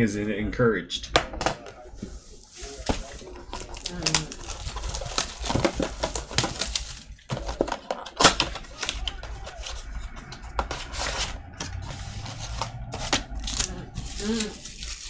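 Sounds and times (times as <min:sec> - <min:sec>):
shrink wrap crinkling: 0:02.2 - 0:15.0.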